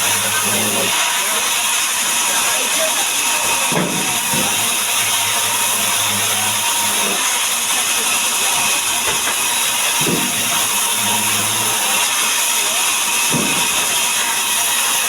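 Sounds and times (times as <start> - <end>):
power saw running: 0.0 - 15.0.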